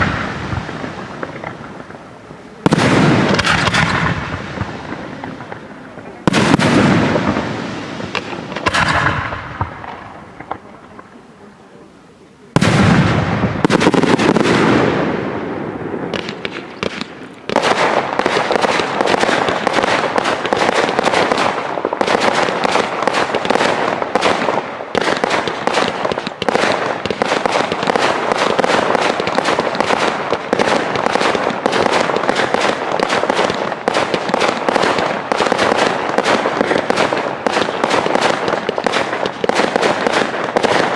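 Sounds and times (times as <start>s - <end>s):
rapid bangs and crackling: 0.0s - 11.1s, 12.6s - 40.9s
fireworks bursting with rumbling echo: 0.0s - 40.9s.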